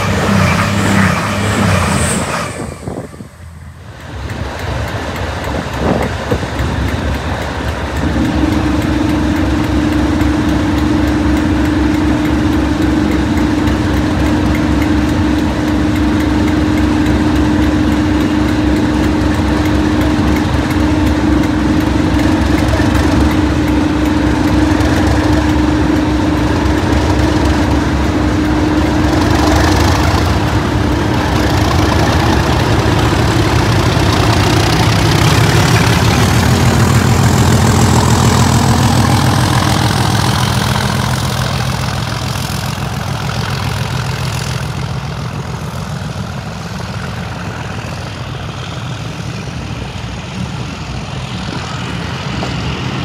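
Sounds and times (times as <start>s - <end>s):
rising whine: 0.0s - 4.9s, 7.9s - 53.0s
diesel train engines running: 0.0s - 53.0s.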